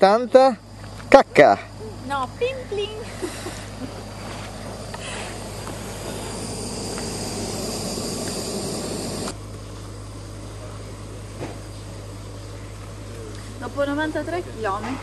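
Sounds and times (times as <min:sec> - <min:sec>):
constant low hum: 0:00.0 - 0:15.0
steady hiss: 0:00.0 - 0:15.0.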